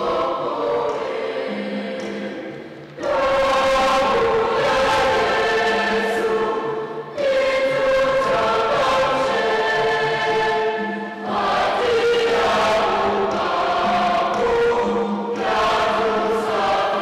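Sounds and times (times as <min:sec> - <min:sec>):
choir singing long held notes: 0:00.0 - 0:17.0.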